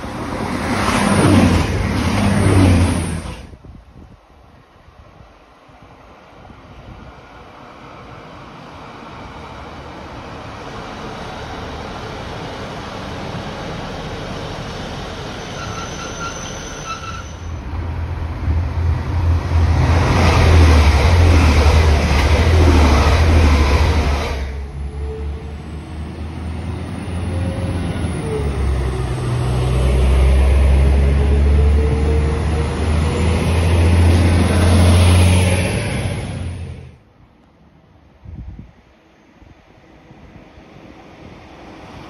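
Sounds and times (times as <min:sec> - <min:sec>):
diesel trains passing at speed: 0:00.0 - 0:42.0.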